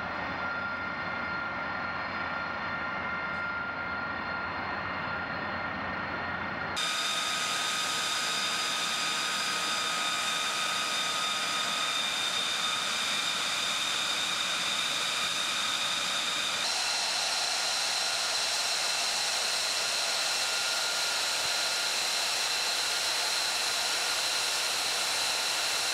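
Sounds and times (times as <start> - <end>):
jet engine running: 0.0 - 25.9.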